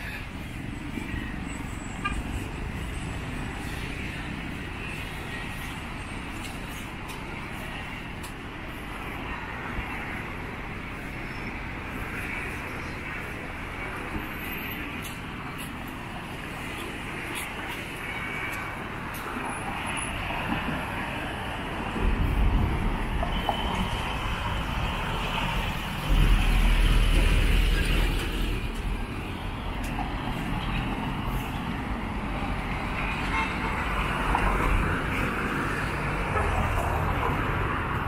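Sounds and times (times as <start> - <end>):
busy road traffic: 0.0 - 38.0.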